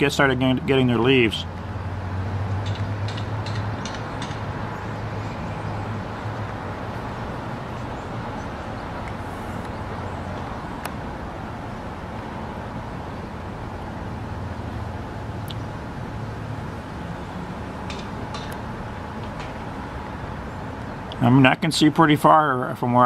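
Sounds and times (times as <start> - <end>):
distant road traffic hum: 0.0 - 23.0.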